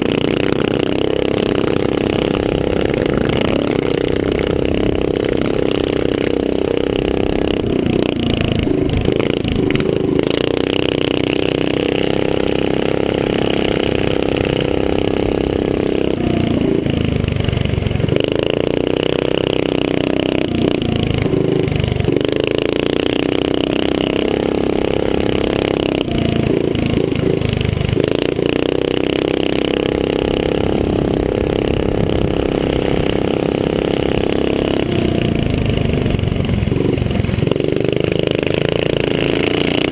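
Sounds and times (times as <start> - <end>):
dirt bike engine at high revs: 0.0 - 39.9.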